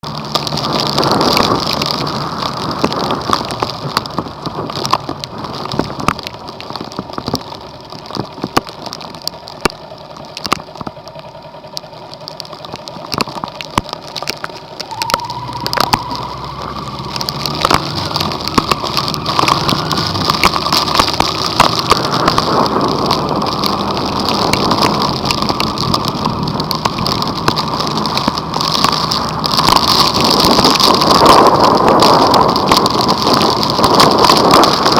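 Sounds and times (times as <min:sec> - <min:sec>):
engine hum: 0:00.0 - 0:34.9
heavy rain on vehicle: 0:00.0 - 0:34.9.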